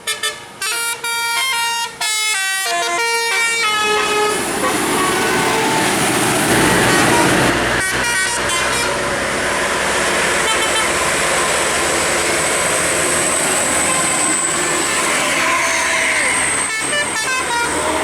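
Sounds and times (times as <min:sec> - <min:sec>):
musical bus air horn: 0:00.0 - 0:09.6, 0:10.2 - 0:18.0
bus engine and road noise: 0:00.0 - 0:18.0.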